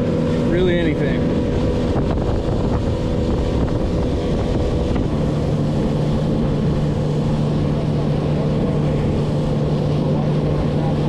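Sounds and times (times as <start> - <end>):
outboard motor running: 0.0 - 11.0
water rushing along hull: 0.0 - 11.0
wind on microphone: 0.0 - 11.0.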